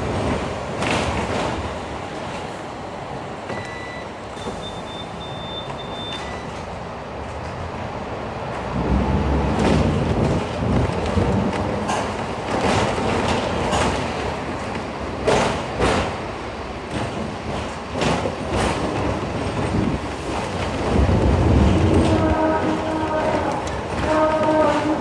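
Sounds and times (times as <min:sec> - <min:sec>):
tram rumbling and rattling: 0:00.0 - 0:25.0.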